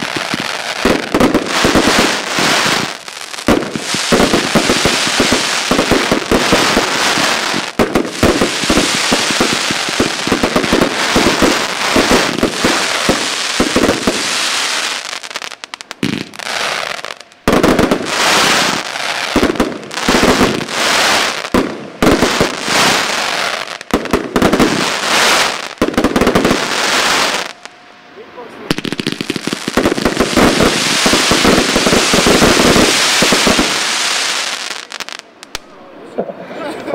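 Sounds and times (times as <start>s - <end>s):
fireworks shots and bursts: 0.0s - 27.6s, 28.7s - 35.8s.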